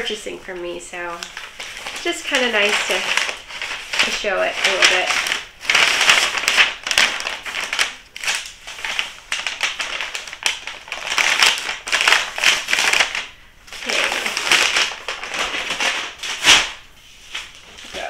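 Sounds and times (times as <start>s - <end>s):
packing paper crinkling: 0.0s - 18.0s.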